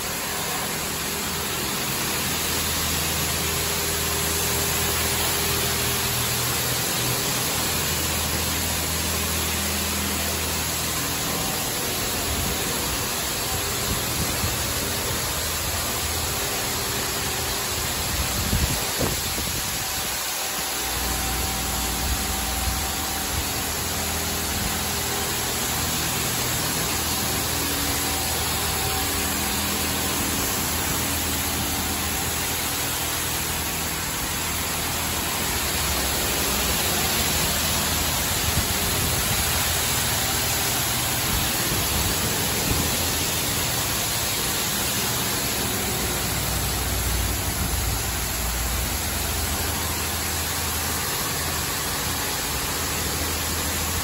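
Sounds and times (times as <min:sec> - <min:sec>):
high-pressure water spray hissing: 0:00.0 - 0:54.0
low machine hum: 0:00.0 - 0:54.0.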